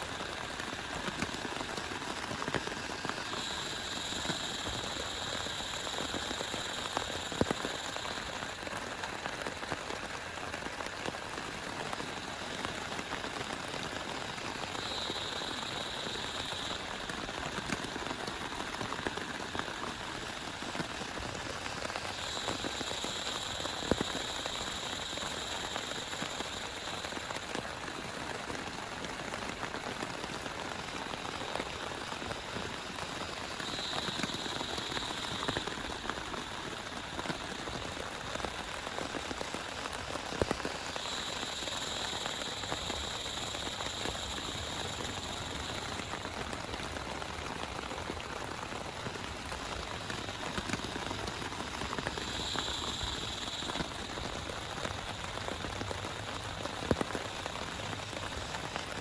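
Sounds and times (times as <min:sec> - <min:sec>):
high-pitched hiss: 0:00.0 - 0:59.0
steady rain falling: 0:00.0 - 0:59.0.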